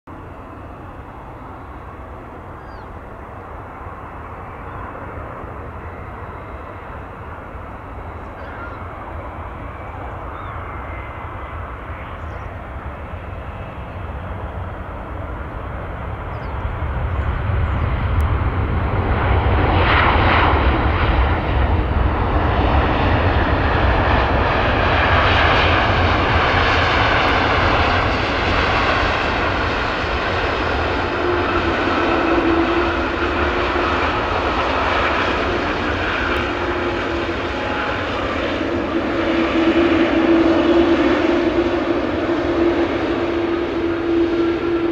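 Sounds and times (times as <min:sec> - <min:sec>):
jet engines landing: 0:00.1 - 0:44.9.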